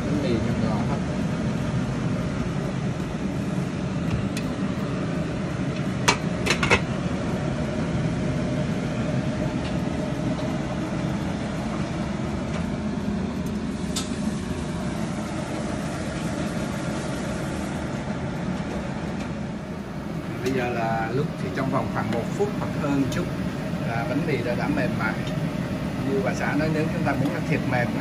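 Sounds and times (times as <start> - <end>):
water boiling: 0.0 - 28.0.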